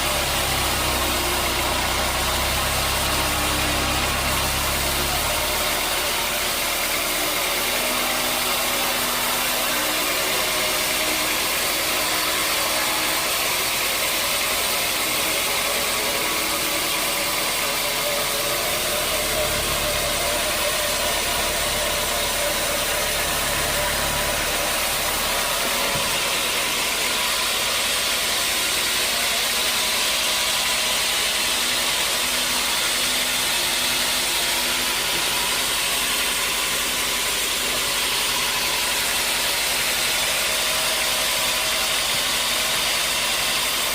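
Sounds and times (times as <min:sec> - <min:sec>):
sawmill machinery running: 0:00.0 - 0:43.9.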